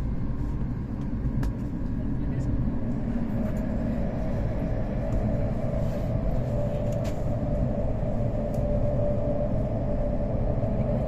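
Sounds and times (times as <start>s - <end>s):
train cabin rumble and hum: 0.0s - 11.0s.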